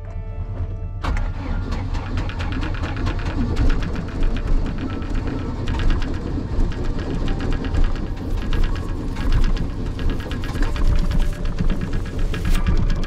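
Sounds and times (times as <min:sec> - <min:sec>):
boat engine cranking: 0:01.0 - 0:13.0.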